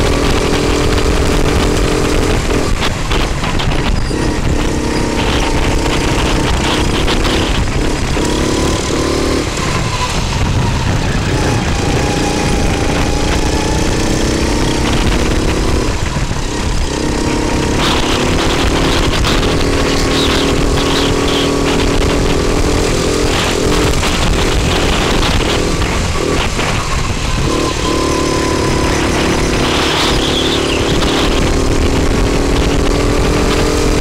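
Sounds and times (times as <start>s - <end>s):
go-kart engine running hard: 0.0s - 34.0s
other karts running nearby: 0.0s - 34.0s.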